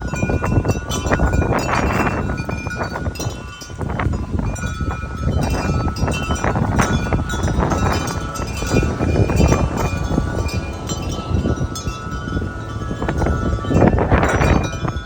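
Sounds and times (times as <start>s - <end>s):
metal wind chime clanging: 0.0s - 15.0s
wind buffeting microphone: 0.0s - 15.0s.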